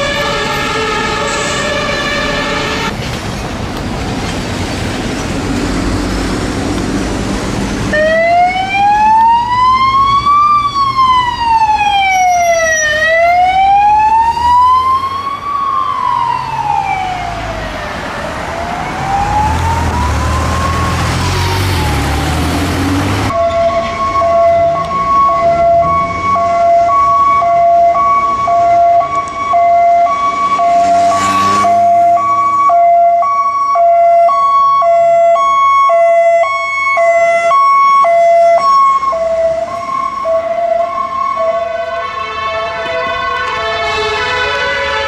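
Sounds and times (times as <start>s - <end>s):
steady-pitched siren: 0.0s - 2.9s, 7.9s - 45.0s
wailing siren: 0.0s - 2.9s, 7.9s - 45.0s
traffic noise: 0.0s - 45.0s.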